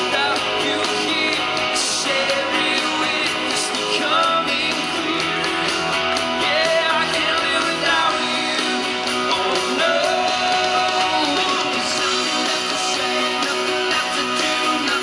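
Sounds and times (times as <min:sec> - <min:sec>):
man singing into microphone: 0:00.0 - 0:05.6, 0:06.4 - 0:15.0
strummed electric guitar: 0:00.0 - 0:15.0.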